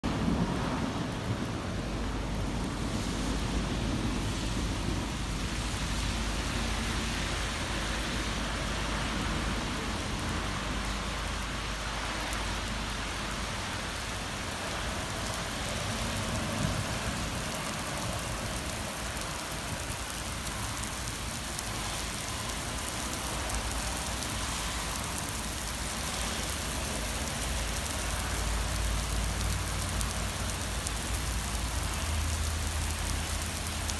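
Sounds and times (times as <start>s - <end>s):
steady rain on wet paving: 0.0s - 33.9s.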